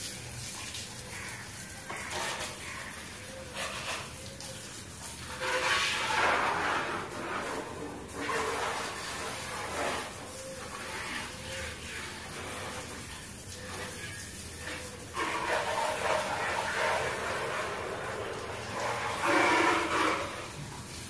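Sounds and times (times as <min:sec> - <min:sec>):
hose spray hissing and splashing: 0:00.0 - 0:21.0.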